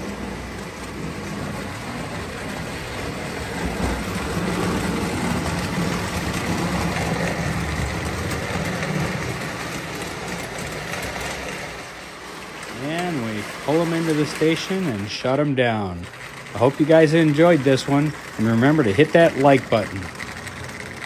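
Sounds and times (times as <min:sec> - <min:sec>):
toy train motors humming: 0:00.0 - 0:21.0
wheels rumbling on metal track: 0:00.0 - 0:21.0.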